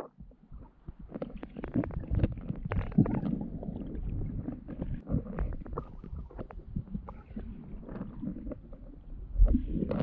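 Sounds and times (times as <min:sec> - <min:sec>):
muffled underwater rumble: 0:00.0 - 0:10.0
small underwater clicks: 0:00.0 - 0:10.0.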